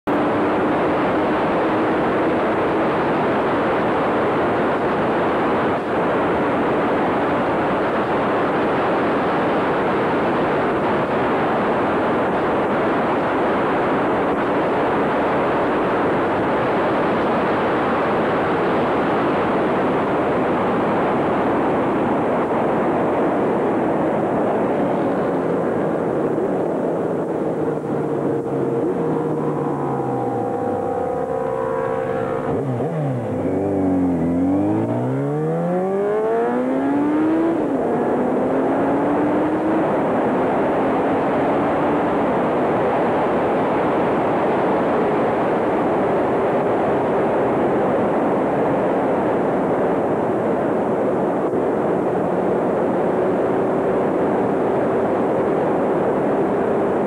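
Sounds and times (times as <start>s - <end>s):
faint car engine: 0.0s - 46.4s
road and wind noise: 0.0s - 57.0s.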